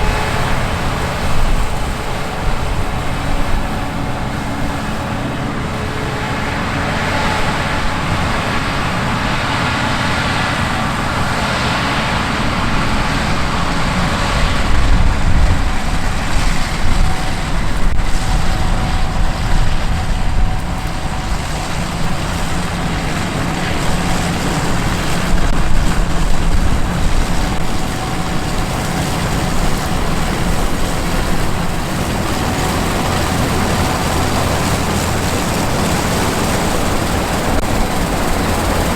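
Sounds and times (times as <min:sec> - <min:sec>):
combine harvester engine rumble: 0:00.0 - 0:38.9.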